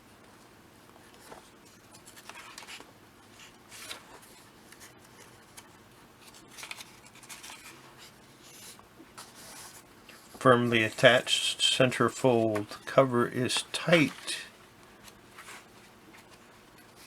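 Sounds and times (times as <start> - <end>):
paper pages rustling: 1.0 - 17.0.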